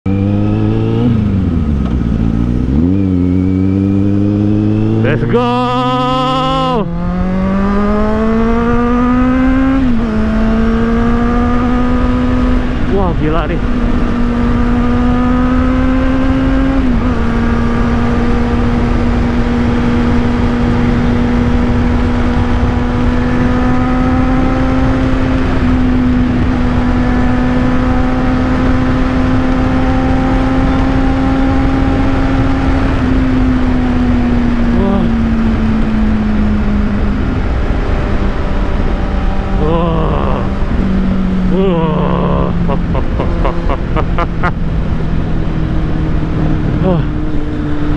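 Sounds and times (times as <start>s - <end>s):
motorcycle engine at high revs: 0.1s - 47.9s.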